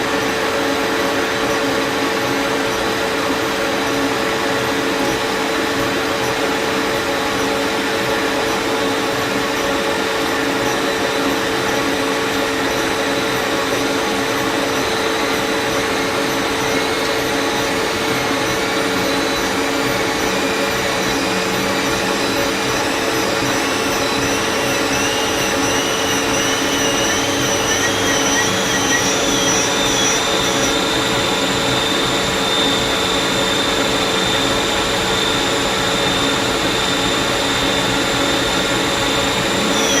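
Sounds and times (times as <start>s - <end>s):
lathe humming: 1.0s - 40.0s
warbling whine rising in pitch: 6.4s - 40.0s.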